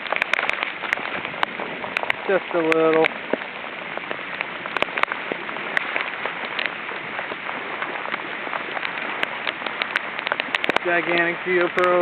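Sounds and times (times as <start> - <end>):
raindrops clicking close by: 0.0 - 12.0
steady downpour of rain: 0.0 - 12.0.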